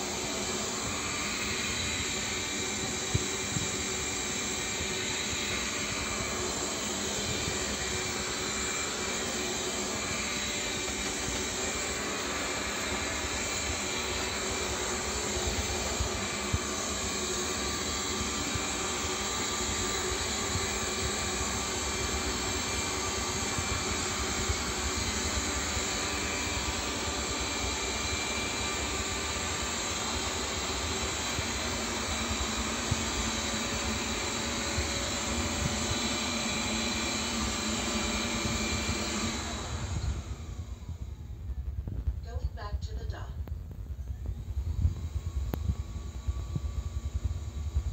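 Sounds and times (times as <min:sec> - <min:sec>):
robot vacuum cleaner running: 0:00.0 - 0:47.9.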